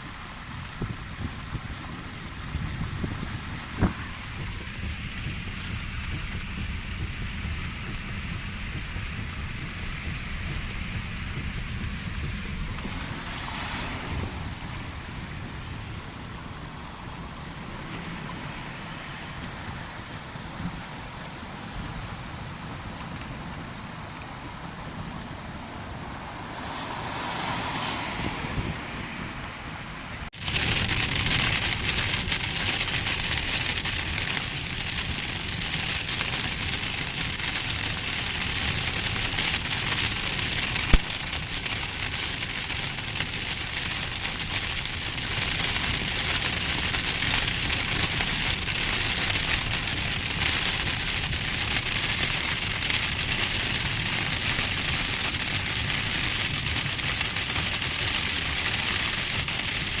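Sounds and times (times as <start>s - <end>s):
strong wind rumbling: 0.0s - 57.4s
heavy rain pouring: 0.0s - 60.0s.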